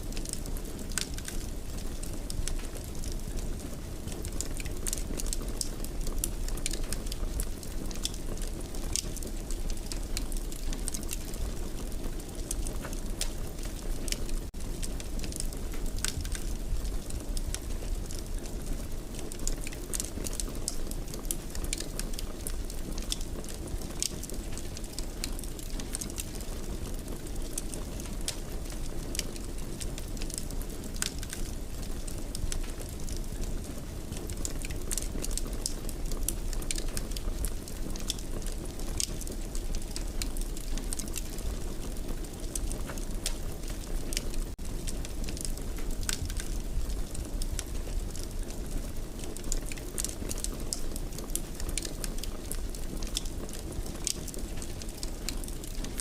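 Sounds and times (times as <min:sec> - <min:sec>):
wood fire crackling: 0:00.0 - 0:56.0
fire popping and snapping: 0:00.1 - 0:56.0.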